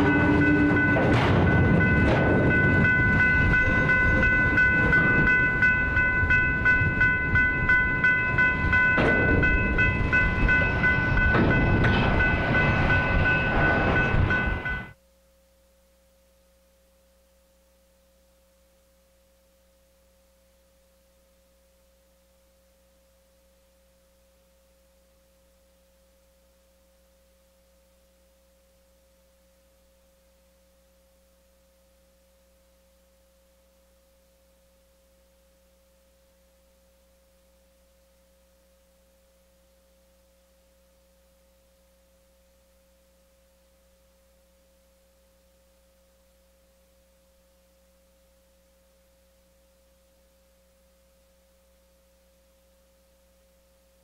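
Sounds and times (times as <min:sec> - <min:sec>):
faint steady tone: 0:00.0 - 0:54.0.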